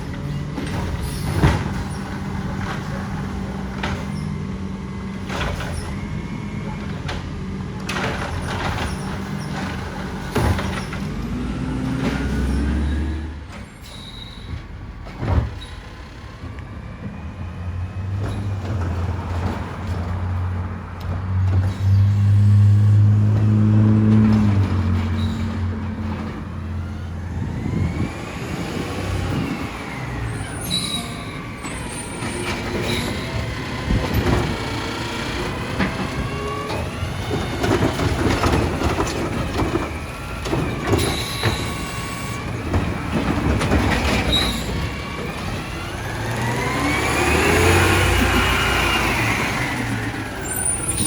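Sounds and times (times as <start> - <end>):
garbage truck engine revving: 0.0 - 51.0.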